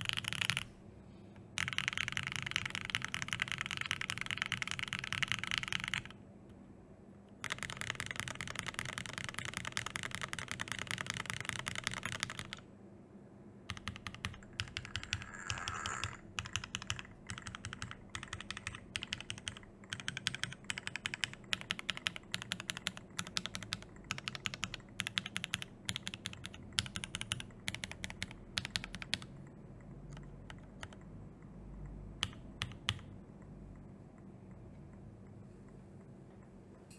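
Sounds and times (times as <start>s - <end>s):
mechanical keyboard typing: 0.0s - 0.7s, 1.6s - 6.2s, 7.4s - 12.6s, 13.7s - 33.9s.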